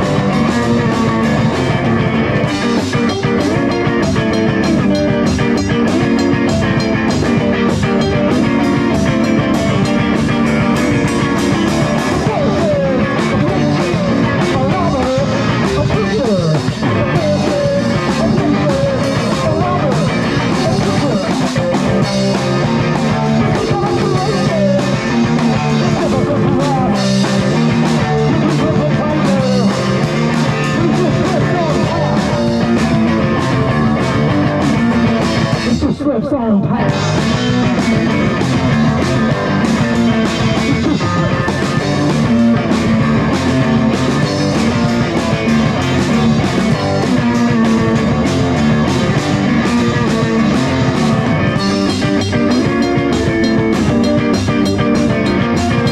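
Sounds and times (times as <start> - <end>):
rock music: 0.0 - 55.9.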